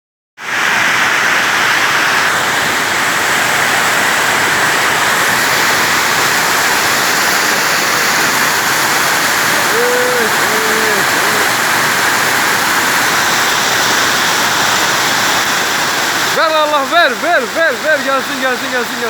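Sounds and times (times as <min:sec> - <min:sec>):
heavy rain downpour: 0:00.4 - 0:19.0.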